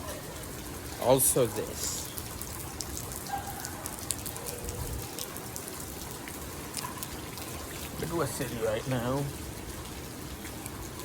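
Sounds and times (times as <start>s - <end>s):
rain falling: 0.0s - 11.0s
raindrops ticking on surfaces: 0.0s - 11.0s.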